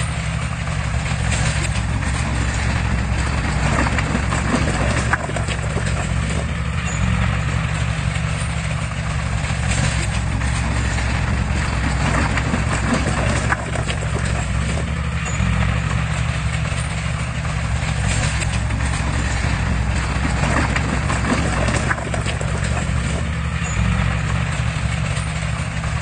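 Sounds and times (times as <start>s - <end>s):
bulldozer diesel engine running: 0.0s - 26.0s
metallic clatter of crawler tracks: 0.0s - 26.0s.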